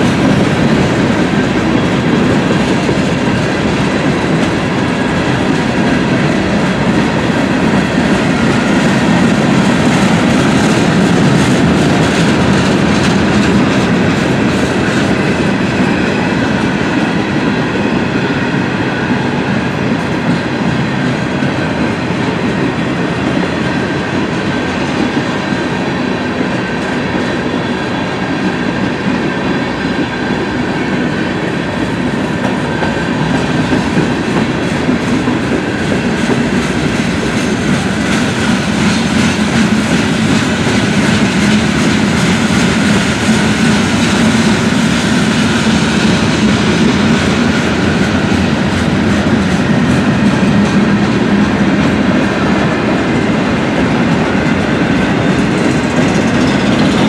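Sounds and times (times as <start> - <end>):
freight train wheels clacking on rails: 0.0 - 57.0.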